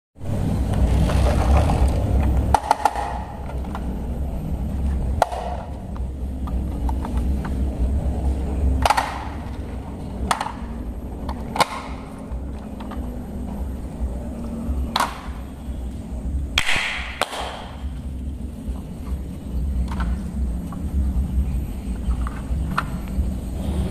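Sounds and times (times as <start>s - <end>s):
low steady rumble: 0.2s - 23.9s.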